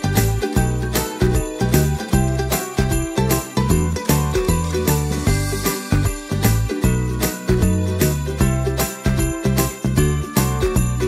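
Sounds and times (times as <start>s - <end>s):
steady bass beat: 0.0s - 9.4s
jingling bells: 0.0s - 11.0s
upbeat christmas music: 0.0s - 11.0s.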